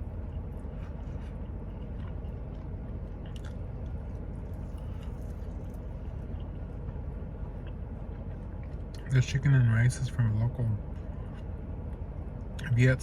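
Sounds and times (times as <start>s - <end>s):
person chewing food: 0.0s - 9.1s, 10.9s - 12.6s
steady low hum: 0.0s - 13.0s.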